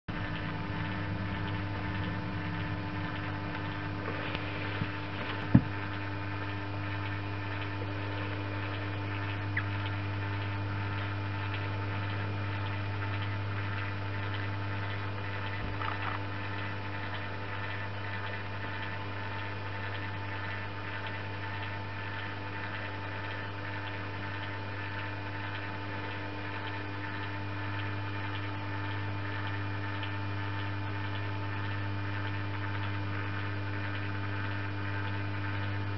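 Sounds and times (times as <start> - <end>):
electrical hum: 0.1 - 35.9
faint ticks: 7.0 - 35.8.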